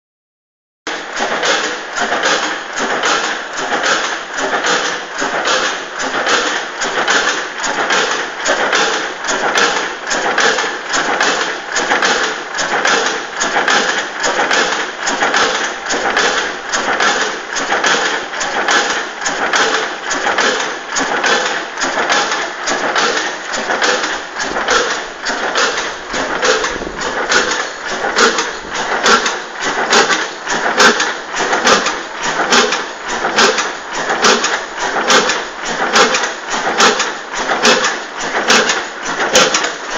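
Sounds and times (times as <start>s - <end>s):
oil engine running: 0.9s - 39.9s
valve gear clattering: 1.1s - 39.9s.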